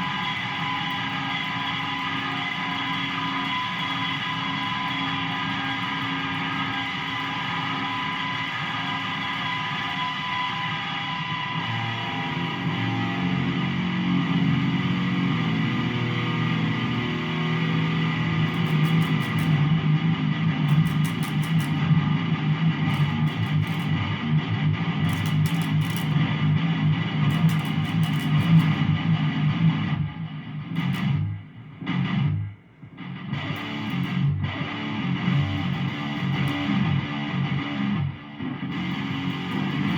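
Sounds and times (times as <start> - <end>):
electric guitar low riff: 0.0 - 39.9.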